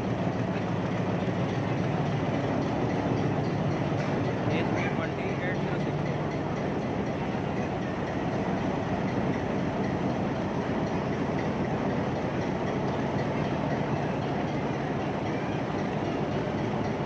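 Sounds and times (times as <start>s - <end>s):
locomotive engine drone: 0.0s - 17.0s
rail noise: 0.0s - 17.0s.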